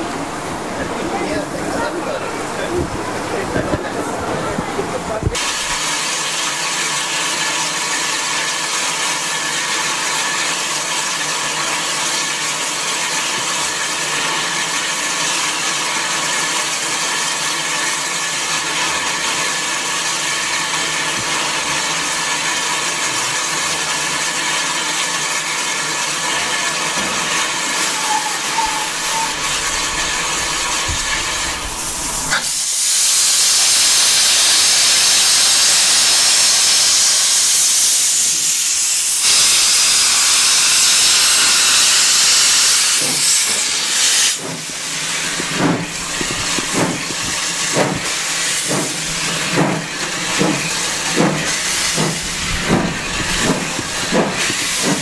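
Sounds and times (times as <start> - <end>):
loud high steam hiss: 0.0 - 55.0
steam locomotive hissing: 0.0 - 55.0.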